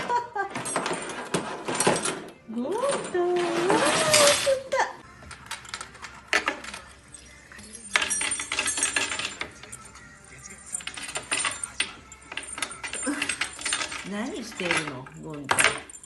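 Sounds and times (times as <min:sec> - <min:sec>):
small hard objects clinking: 0:00.6 - 0:16.0.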